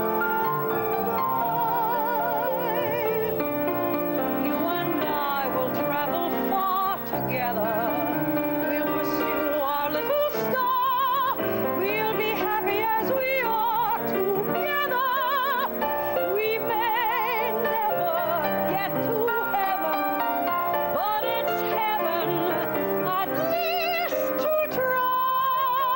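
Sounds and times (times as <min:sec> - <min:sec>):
woman singing with vibrato: 0:00.0 - 0:25.9.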